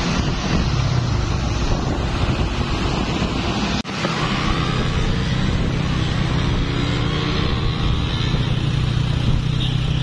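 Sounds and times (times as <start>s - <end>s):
wind buffeting microphone: 0.0s - 9.6s
road noise: 0.0s - 10.0s.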